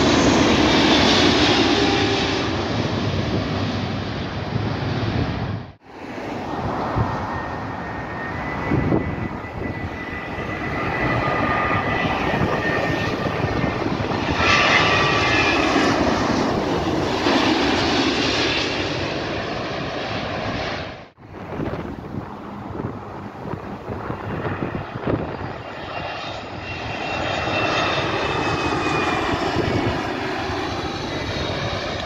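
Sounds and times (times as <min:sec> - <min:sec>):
distant aircraft: 0:00.0 - 0:32.0
jet airliner passing overhead: 0:00.0 - 0:32.0.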